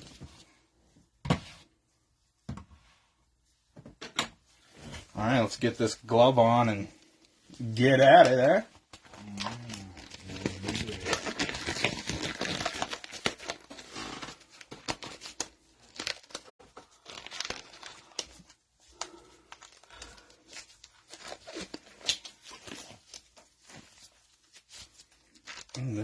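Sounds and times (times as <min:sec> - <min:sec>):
glove rustling and crinkling: 0:04.6 - 0:26.0.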